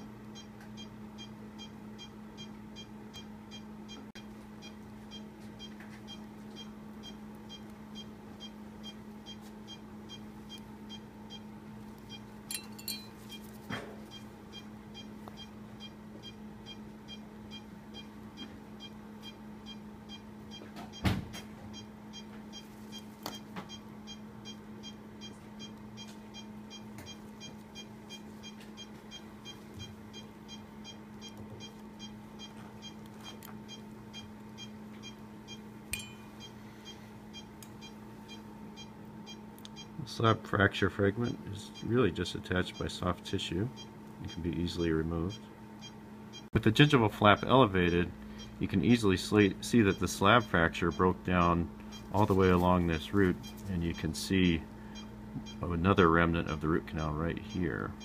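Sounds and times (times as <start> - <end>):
patient monitor beeping: 0.0 - 12.3, 14.1 - 21.1, 21.7 - 40.4, 41.0 - 42.0, 42.6 - 58.0
steady low hum: 0.0 - 58.0.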